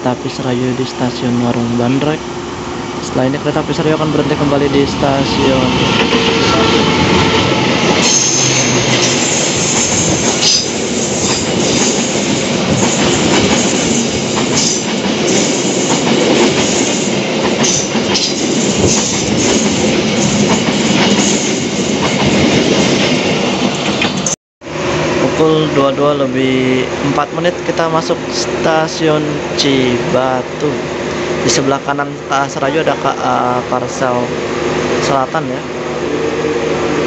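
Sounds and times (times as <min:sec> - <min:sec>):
train wheels rushing on rail: 0:00.0 - 0:37.0.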